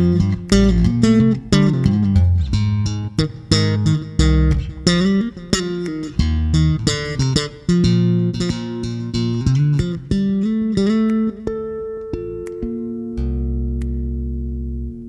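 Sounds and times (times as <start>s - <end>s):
bass line: 0.0s - 11.3s, 12.1s - 15.0s
plucked guitar: 0.0s - 15.0s.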